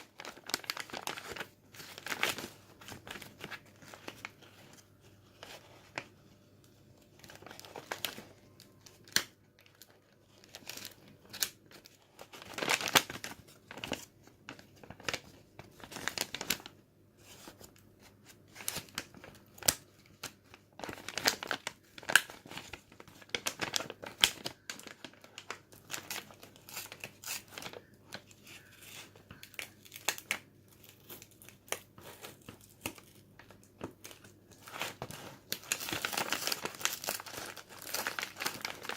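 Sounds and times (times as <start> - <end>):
packaging crinkling and tearing: 0.0 - 6.2, 7.0 - 38.9.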